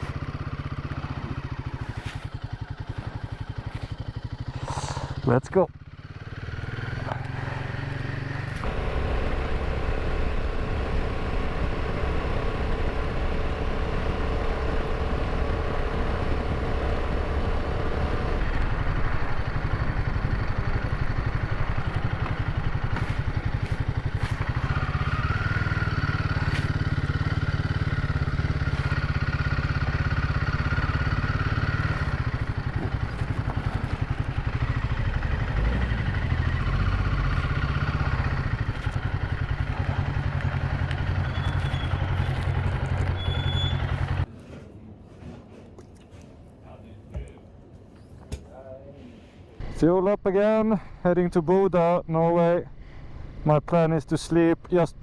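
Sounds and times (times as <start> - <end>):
motorcycle engine running: 0.0 - 44.3.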